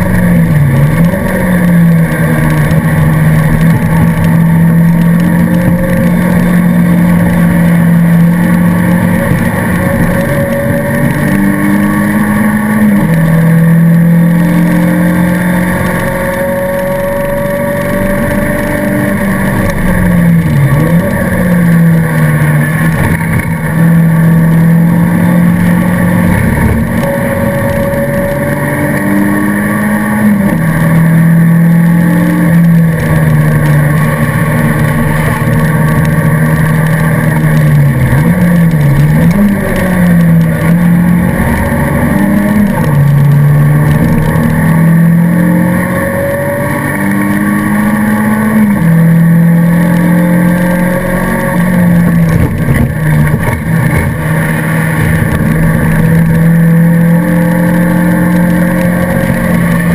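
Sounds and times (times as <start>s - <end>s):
race car engine with gear changes: 0.0s - 59.9s.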